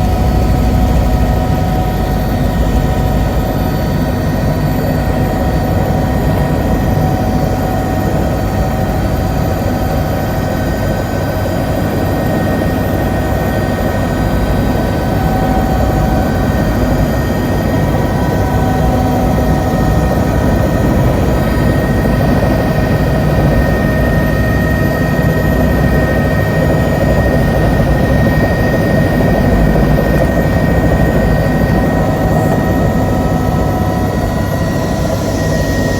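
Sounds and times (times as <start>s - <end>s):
helicopter high whine: 0.0s - 35.9s
helicopter low rumble: 0.0s - 35.9s.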